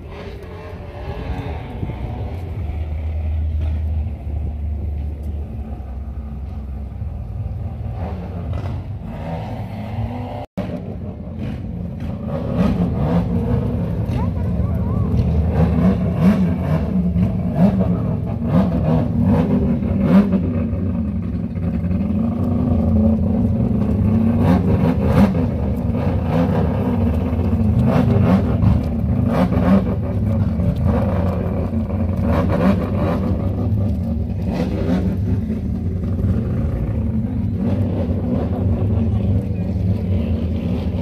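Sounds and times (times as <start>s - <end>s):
car engine exhaust rumble: 0.0s - 41.0s.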